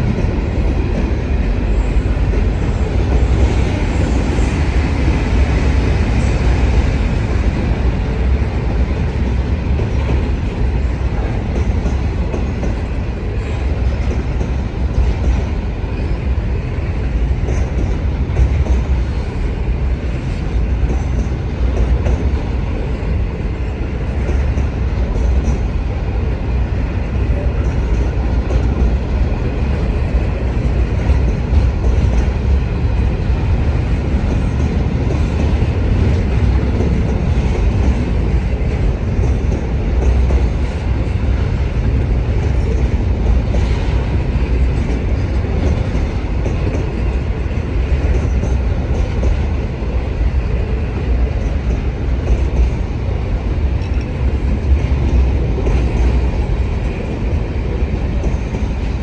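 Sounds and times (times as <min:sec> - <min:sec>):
freight train rolling past: 0:00.0 - 0:59.0
wheels clickety-clack on rail: 0:00.0 - 0:59.0.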